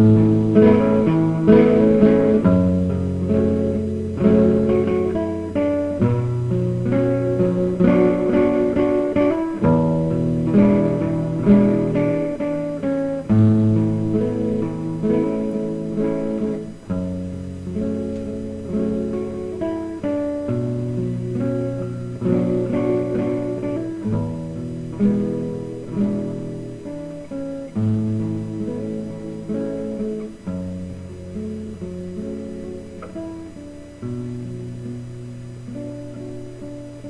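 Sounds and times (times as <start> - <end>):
acoustic guitar music: 0.0 - 37.0.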